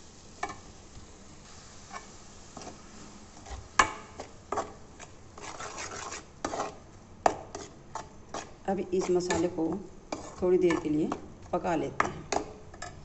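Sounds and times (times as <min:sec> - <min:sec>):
metal spoon scraping a pan: 0:01.5 - 0:11.2, 0:11.9 - 0:13.0.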